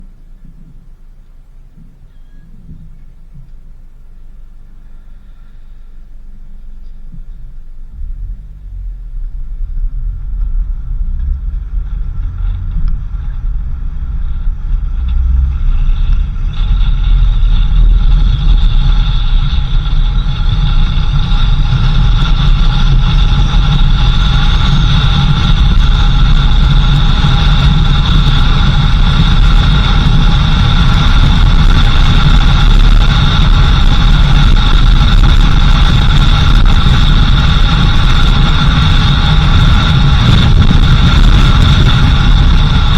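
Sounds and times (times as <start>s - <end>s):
car engine and road rumble: 0.0s - 42.9s
steady high whine: 0.0s - 42.9s.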